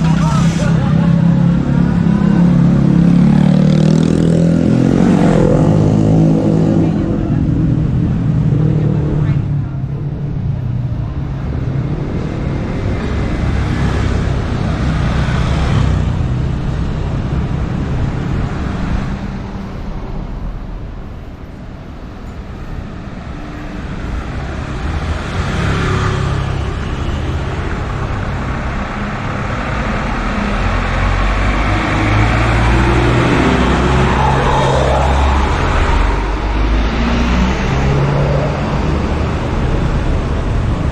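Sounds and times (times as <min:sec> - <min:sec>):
vehicle engines passing: 0:00.0 - 0:40.9.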